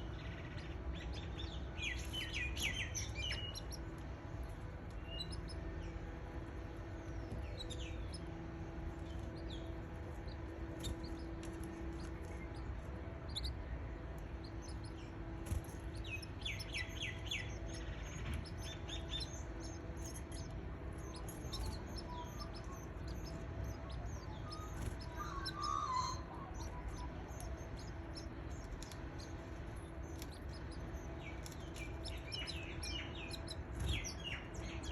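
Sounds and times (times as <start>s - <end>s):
canaries chirping: 0.0s - 34.9s
steady low hum: 0.0s - 34.9s.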